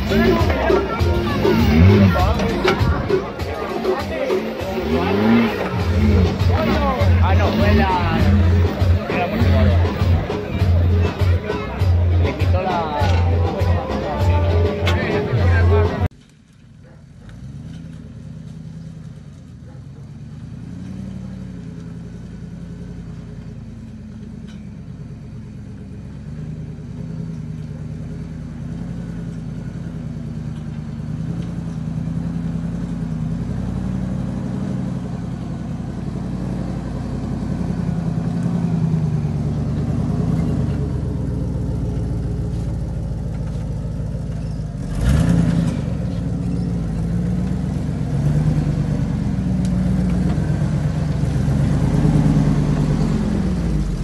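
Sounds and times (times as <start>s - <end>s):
car engine at low revs: 0.0s - 54.0s.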